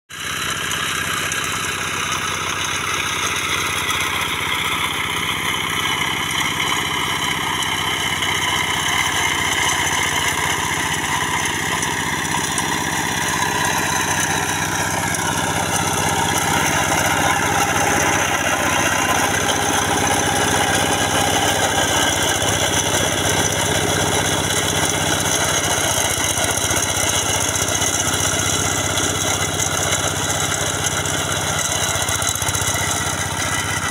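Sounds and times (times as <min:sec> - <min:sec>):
hand tractor engine tilling: 0:00.2 - 0:33.9.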